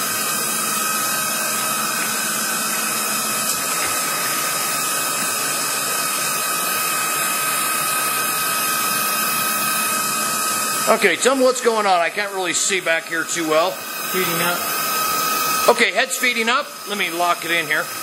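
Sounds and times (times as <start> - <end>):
milling machine whine: 0.0 - 18.0.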